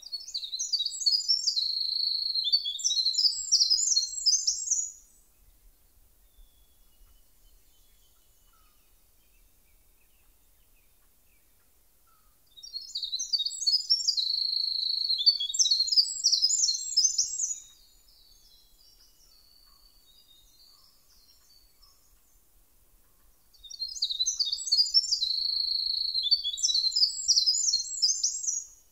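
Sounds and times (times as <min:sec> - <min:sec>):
songbird singing trills: 0:00.0 - 0:28.9.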